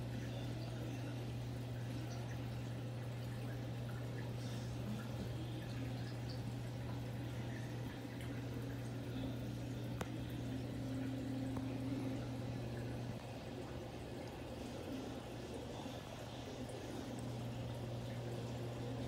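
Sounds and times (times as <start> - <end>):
aquarium filter hum: 0.0 - 19.0
water trickling and bubbling: 0.0 - 19.0.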